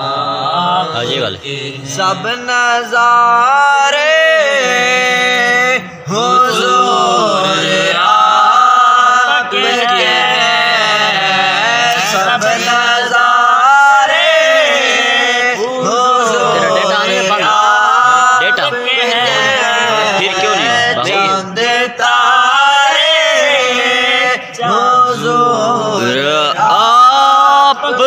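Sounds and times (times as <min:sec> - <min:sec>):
men singing unaccompanied: 0:00.0 - 0:28.0.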